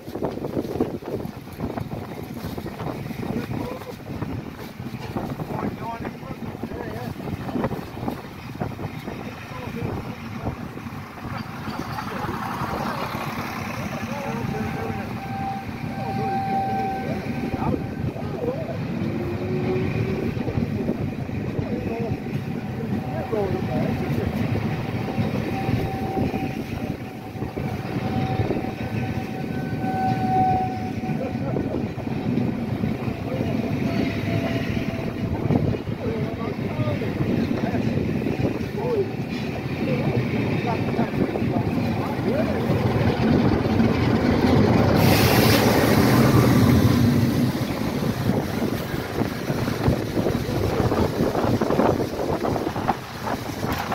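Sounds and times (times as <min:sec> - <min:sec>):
diesel locomotive engine running: 0:00.0 - 0:53.9
train low rumble: 0:00.0 - 0:53.9
wind buffeting microphone: 0:00.0 - 0:53.9.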